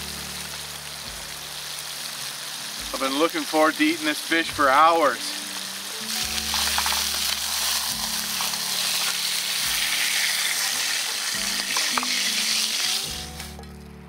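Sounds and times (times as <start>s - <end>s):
fish sizzling over fire: 0.0s - 13.9s
background music low notes: 0.0s - 14.0s.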